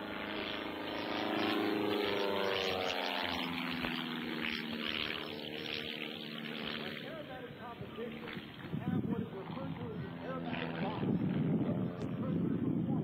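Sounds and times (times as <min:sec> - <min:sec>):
propeller plane droning past: 0:00.0 - 0:13.0.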